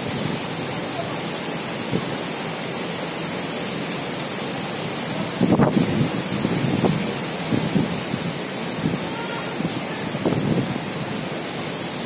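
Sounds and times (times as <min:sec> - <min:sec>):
heavy rain: 0:00.0 - 0:12.0
rushing wind: 0:00.0 - 0:12.0.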